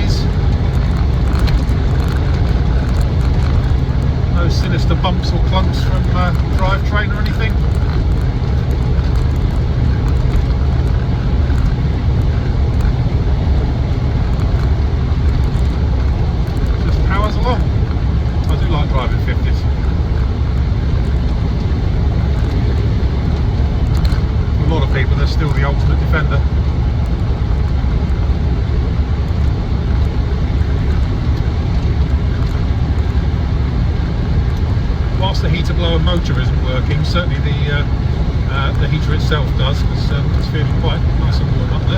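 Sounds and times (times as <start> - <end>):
car engine low rumble: 0.0 - 41.9
road and wind noise: 0.0 - 41.9.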